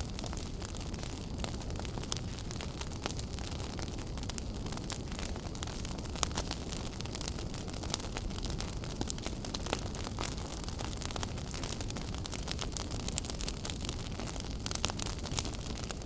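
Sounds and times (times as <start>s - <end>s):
flames rumbling: 0.0s - 16.0s
wood crackling and popping: 0.0s - 16.0s.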